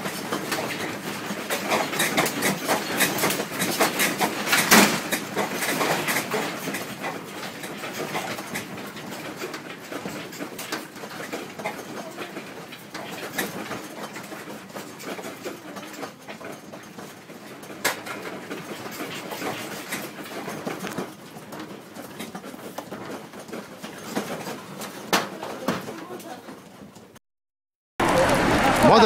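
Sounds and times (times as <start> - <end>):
objects rattling and clattering: 0.0 - 27.2.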